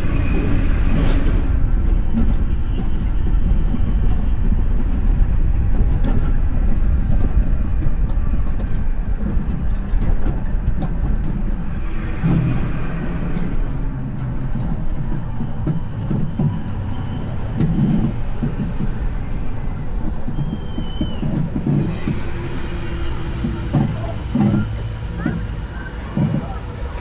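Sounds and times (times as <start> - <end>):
coaster wheels rumbling on track: 0.0 - 27.0.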